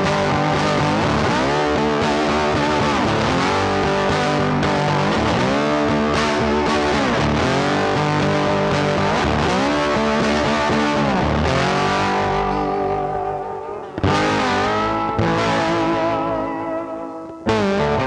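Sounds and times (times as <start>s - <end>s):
band backing music: 0.0s - 18.0s
distorted electric guitar: 0.0s - 18.0s.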